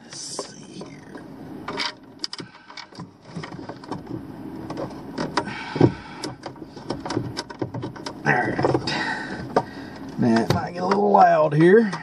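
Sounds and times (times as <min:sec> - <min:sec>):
handling clicks and scrapes: 0:00.0 - 0:12.0.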